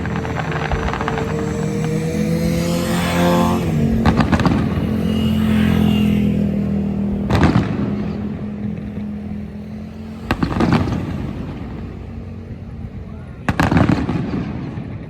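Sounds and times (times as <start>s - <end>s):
fireworks bangs: 0.0s - 5.8s, 6.4s - 15.0s.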